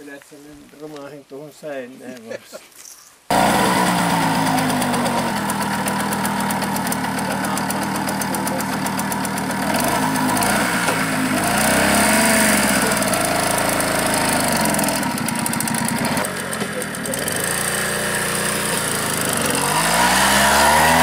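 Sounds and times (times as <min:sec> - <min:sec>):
moped engine idling: 0:03.3 - 0:21.0.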